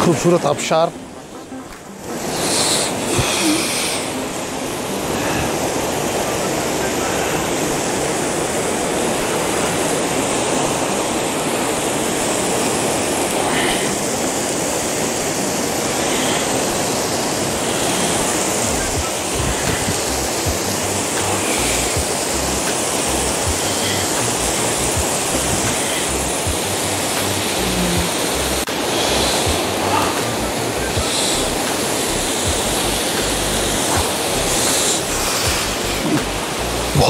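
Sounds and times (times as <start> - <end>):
fast river flowing: 0.0 - 37.0
waterfall rushing: 0.0 - 37.0.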